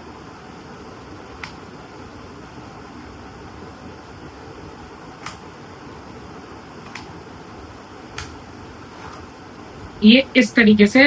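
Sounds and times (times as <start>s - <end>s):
steady fan-like hiss: 0.0s - 11.0s.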